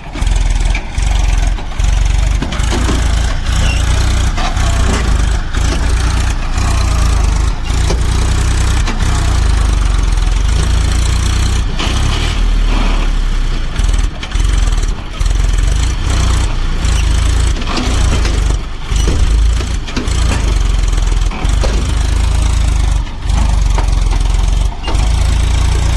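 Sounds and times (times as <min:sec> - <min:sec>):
tractor diesel engine rumbling: 0:00.0 - 0:25.9.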